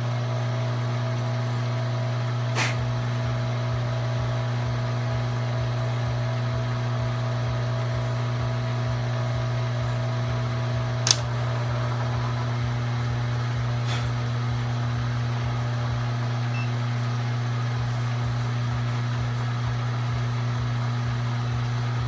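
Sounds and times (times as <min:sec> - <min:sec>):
milling machine motor hum: 0:00.0 - 0:22.0.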